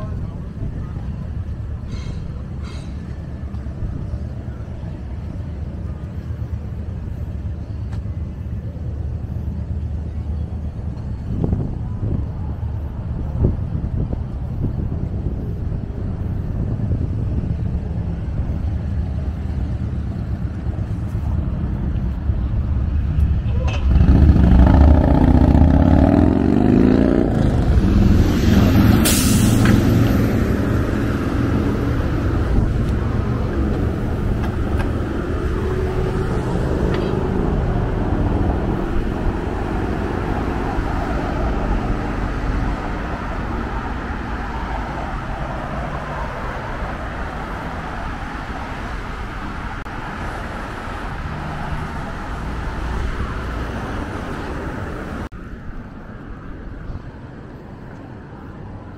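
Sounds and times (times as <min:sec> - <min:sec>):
street traffic going by: 0:00.0 - 0:58.9.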